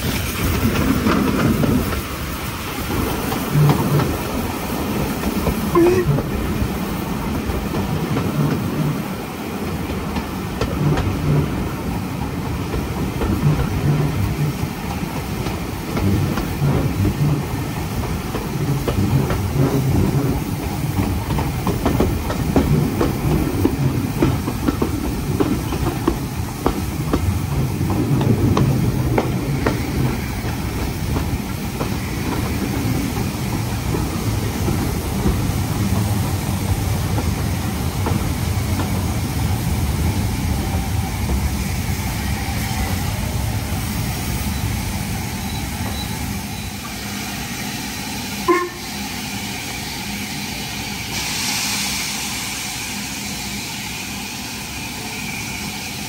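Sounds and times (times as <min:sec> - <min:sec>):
train coaches rumbling: 0:00.0 - 0:56.0.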